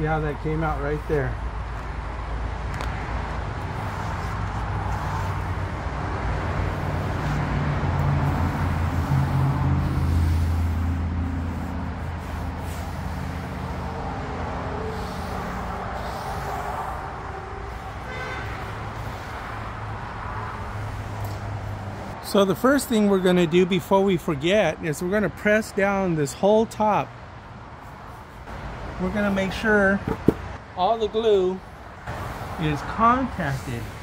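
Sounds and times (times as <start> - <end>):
traffic rushing: 0.0 - 34.0
vehicle engine hum: 0.0 - 34.0.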